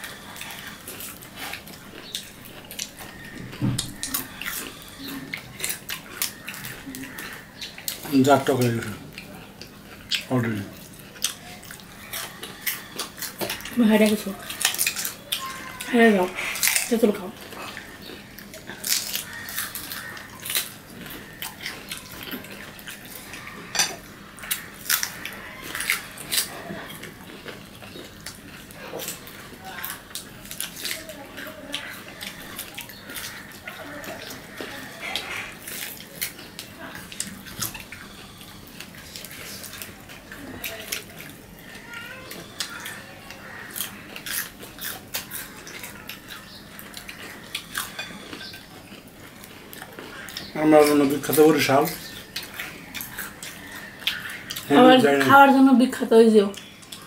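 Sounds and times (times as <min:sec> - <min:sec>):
crunching and chewing fruit: 0:00.0 - 0:57.0.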